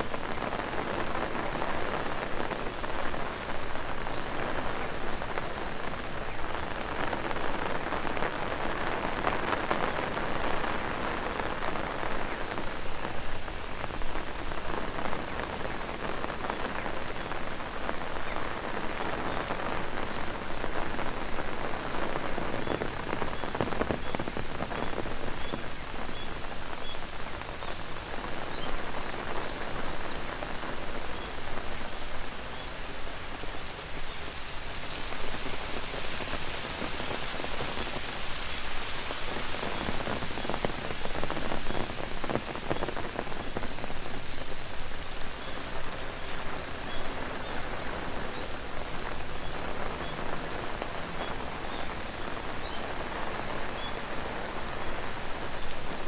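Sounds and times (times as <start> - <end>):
cicada drone: 0.0 - 56.0
rain drumming on an umbrella: 0.0 - 56.0.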